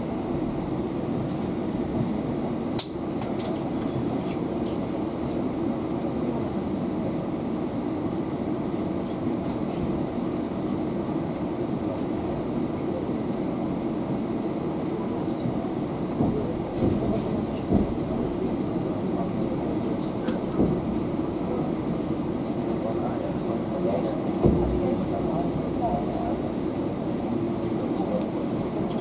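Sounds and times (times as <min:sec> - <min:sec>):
train car rumbling: 0:00.0 - 0:29.0.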